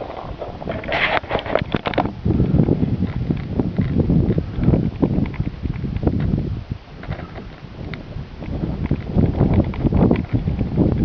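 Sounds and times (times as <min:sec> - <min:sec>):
rustling: 0:00.0 - 0:11.0
wind buffeting microphone: 0:00.0 - 0:11.0.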